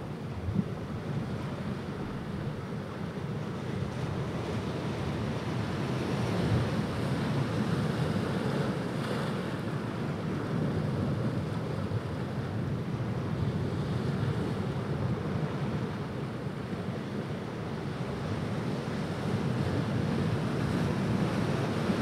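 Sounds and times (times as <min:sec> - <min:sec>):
waves breaking and washing in: 0:00.0 - 0:22.0.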